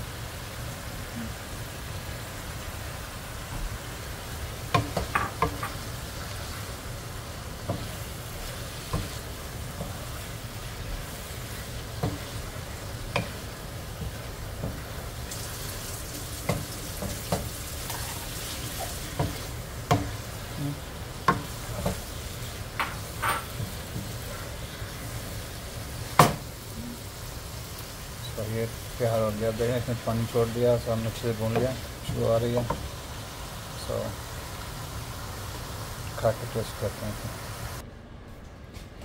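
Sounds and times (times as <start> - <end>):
light sizzle of frying: 0.0 - 37.8.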